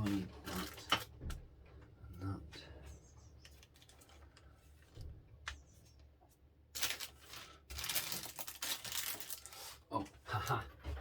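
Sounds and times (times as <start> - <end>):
rustling and rattling of parts and bags: 0.0 - 2.0, 2.6 - 6.0, 6.6 - 11.0.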